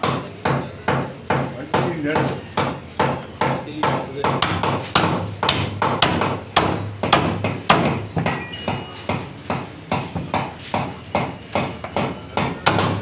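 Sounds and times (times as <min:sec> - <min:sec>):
cleaver chopping meat on wood: 0:00.0 - 0:08.2, 0:09.1 - 0:13.0.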